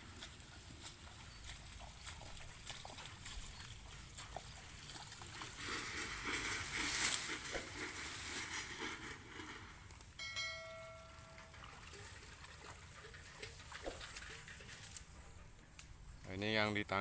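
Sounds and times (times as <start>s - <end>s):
water sloshing and splashing: 0.0s - 9.9s, 10.5s - 15.6s.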